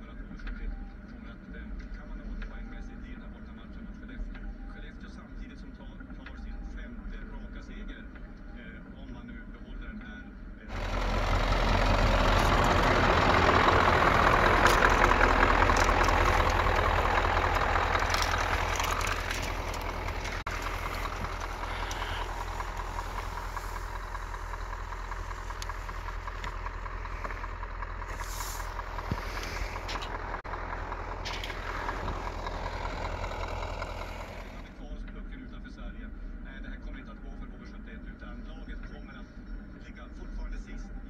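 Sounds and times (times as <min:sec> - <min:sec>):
truck engine rumbling: 0:00.0 - 0:40.8.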